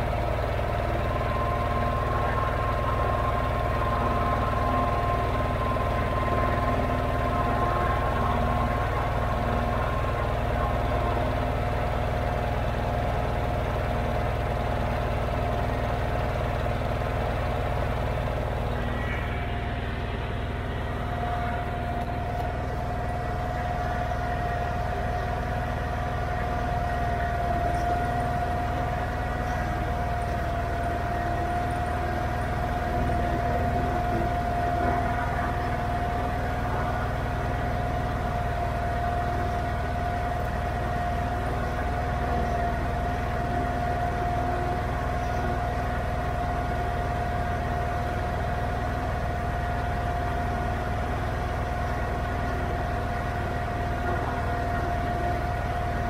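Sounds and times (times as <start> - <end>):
garden tractor engine running: 0.0 - 56.0
steady high whine: 0.0 - 56.0.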